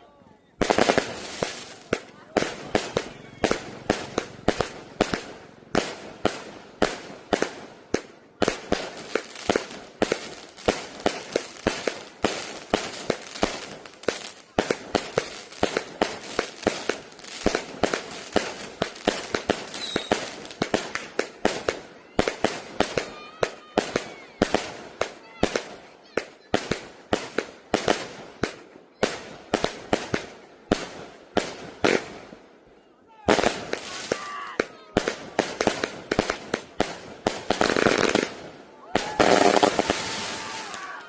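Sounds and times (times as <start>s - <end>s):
fireworks bangs: 0.6s - 32.4s, 33.2s - 41.0s.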